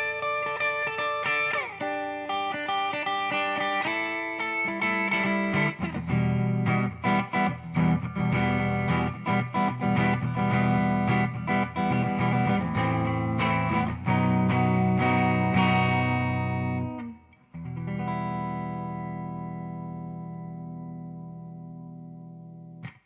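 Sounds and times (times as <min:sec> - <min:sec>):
guitar playing folk song: 0:00.0 - 0:22.8.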